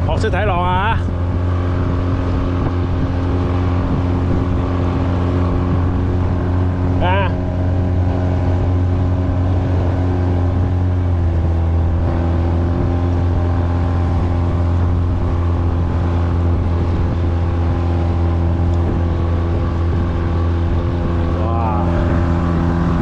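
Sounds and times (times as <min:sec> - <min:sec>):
motorboat engine droning: 0:00.0 - 0:23.0.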